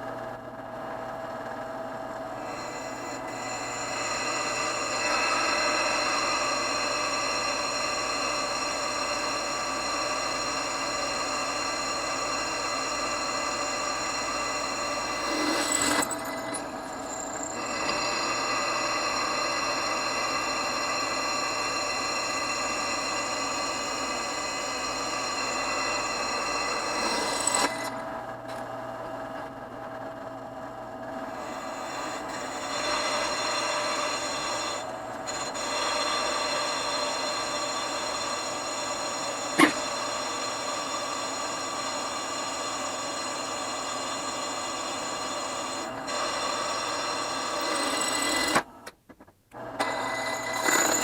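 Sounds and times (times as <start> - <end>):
drill press drilling into metal: 2.4 - 28.0, 31.3 - 48.7, 49.6 - 51.0.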